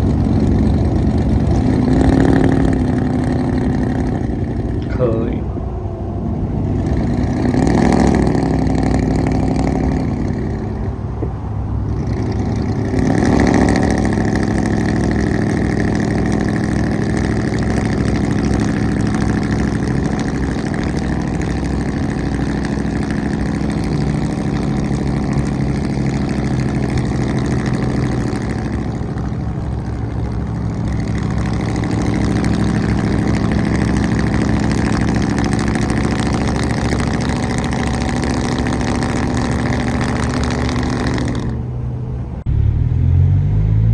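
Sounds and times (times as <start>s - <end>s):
pickup truck loud exhaust revving: 0.0s - 43.9s.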